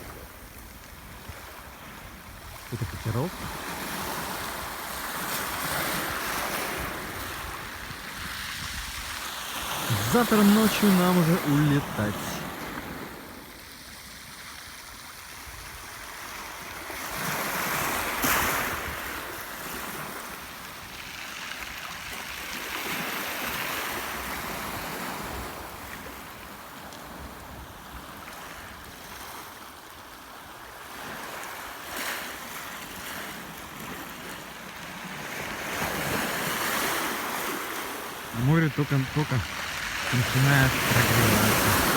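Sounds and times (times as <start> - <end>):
waves breaking on shore: 0.0 - 41.9.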